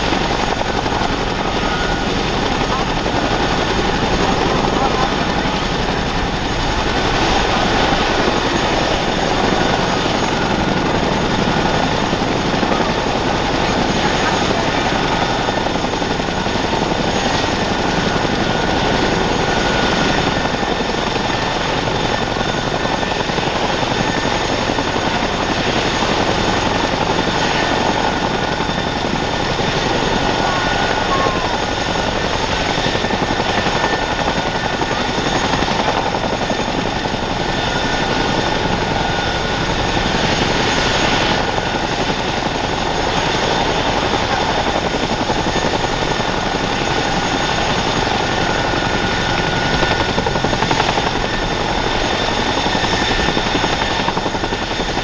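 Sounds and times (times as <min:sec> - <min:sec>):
helicopter rotors rushing: 0:00.0 - 0:55.0
helicopter turbine engine whine: 0:00.0 - 0:55.0.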